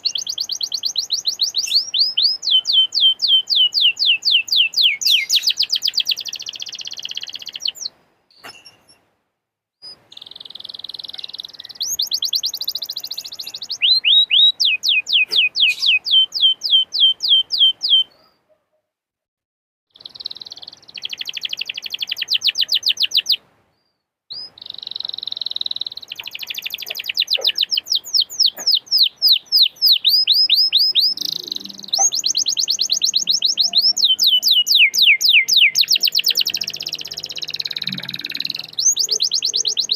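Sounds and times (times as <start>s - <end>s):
canary singing trills: 0.0s - 9.0s, 9.8s - 18.5s, 19.9s - 39.9s.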